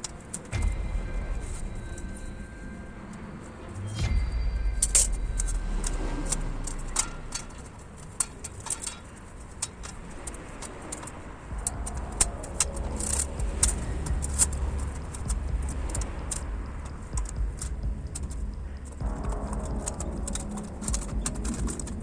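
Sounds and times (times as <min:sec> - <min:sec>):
low steady rumble: 0:00.5 - 0:09.9, 0:11.4 - 0:22.0.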